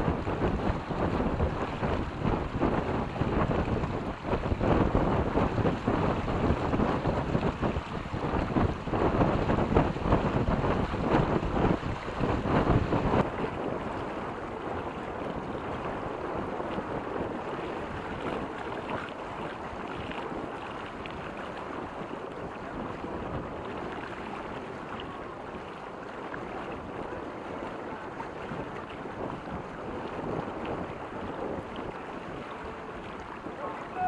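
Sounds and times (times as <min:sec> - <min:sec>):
water rushing along hull: 0:00.0 - 0:34.0
wind buffeting microphone: 0:00.0 - 0:34.0.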